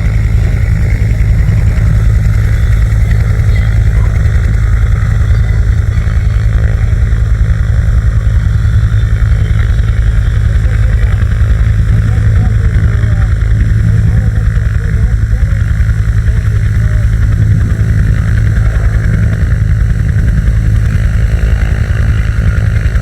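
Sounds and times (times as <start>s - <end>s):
helicopter drone with rotor chop: 0.0s - 23.0s.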